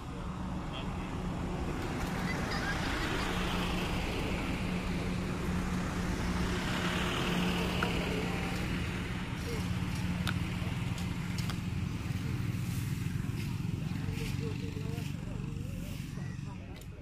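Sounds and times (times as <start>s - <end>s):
distant engine hum: 0.0s - 17.0s.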